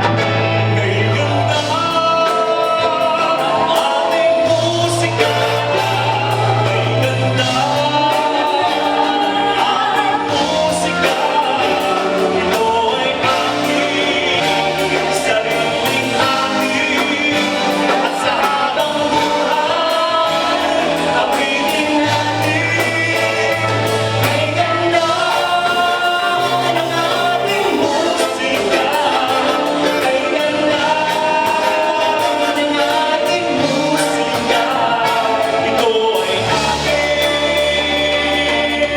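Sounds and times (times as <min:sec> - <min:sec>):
live band accompaniment: 0:00.0 - 0:38.9
vocal group singing in harmony: 0:00.0 - 0:38.9.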